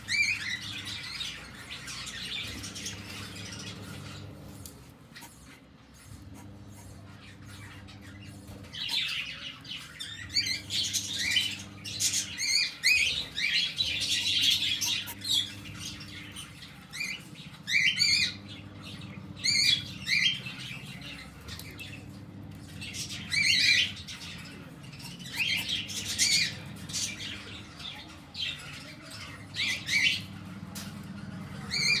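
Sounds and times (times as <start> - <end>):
bird chicks chirping and squawking: 0.0 - 32.0
steady low hum: 0.0 - 32.0.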